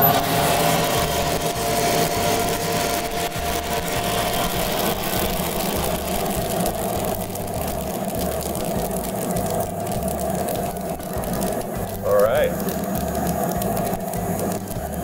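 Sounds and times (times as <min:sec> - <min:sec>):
coffee beans pouring rattling: 0:00.0 - 0:15.0
low pulse: 0:00.0 - 0:15.0
motors and fan humming: 0:00.0 - 0:15.0.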